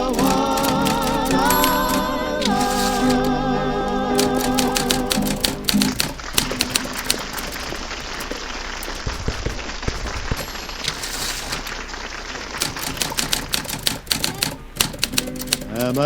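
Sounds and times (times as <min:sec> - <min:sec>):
typewriter keys clacking: 0:00.0 - 0:03.3, 0:04.2 - 0:11.8, 0:12.6 - 0:16.0.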